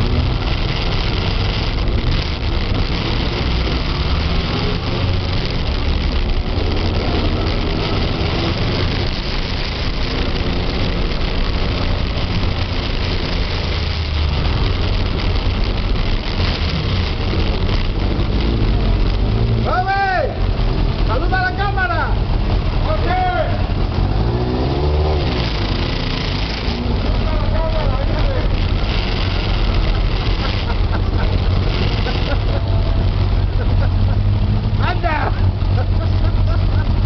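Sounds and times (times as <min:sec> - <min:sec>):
constant rushing noise: 0:00.0 - 0:37.0.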